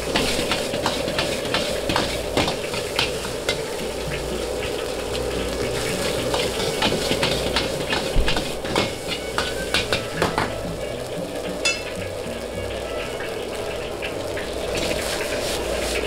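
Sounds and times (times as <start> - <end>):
food sizzling: 0.0 - 16.0
metal utensil scraping wok: 0.0 - 16.0.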